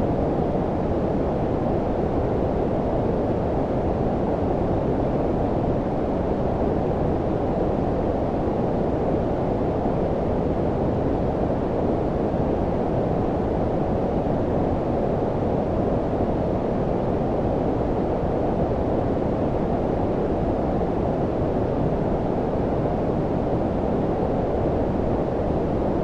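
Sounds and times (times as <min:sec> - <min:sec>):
brown noise rumbling hiss: 0:00.0 - 0:26.0.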